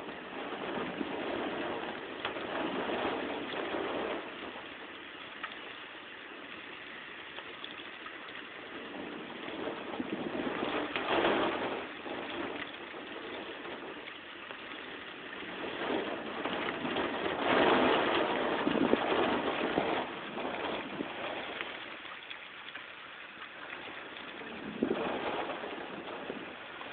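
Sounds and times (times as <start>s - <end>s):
heavy rain: 0.0s - 26.9s
wind: 0.0s - 26.9s.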